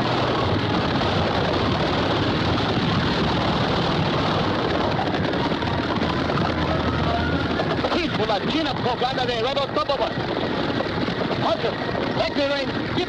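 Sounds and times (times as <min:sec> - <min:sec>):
horses galloping: 0:00.0 - 0:13.0
stagecoach wheels rolling: 0:00.0 - 0:13.0.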